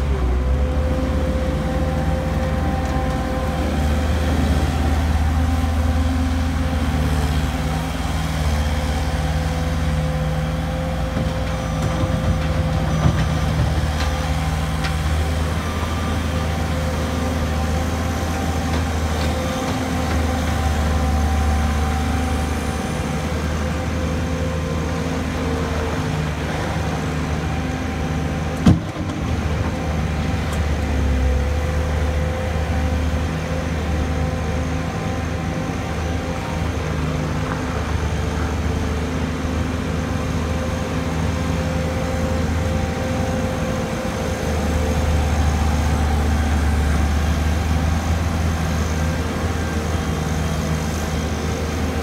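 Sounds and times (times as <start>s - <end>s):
loader diesel engine running: 0.0s - 52.0s.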